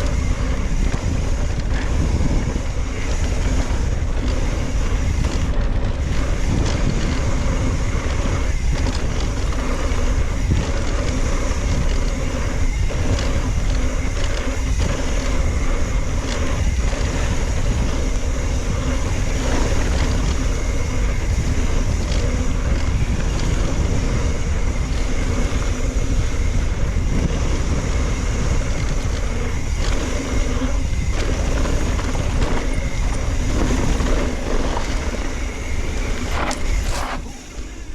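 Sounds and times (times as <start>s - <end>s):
bike knocks and rattles: 0.0s - 37.9s
bike tyre noise on dirt: 0.0s - 37.9s
wind buffeting microphone: 0.0s - 37.9s.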